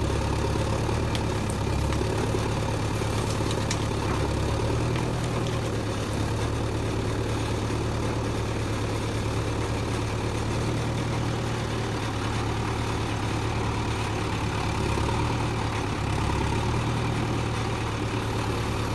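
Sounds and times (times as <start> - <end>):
diesel engine idling: 0.0 - 18.9.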